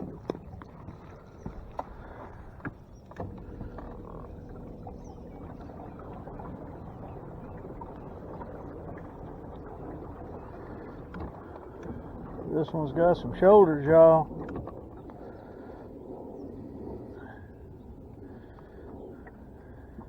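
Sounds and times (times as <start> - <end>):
boat engine low rumble: 0.0 - 20.0
faint steady hum: 0.0 - 20.0.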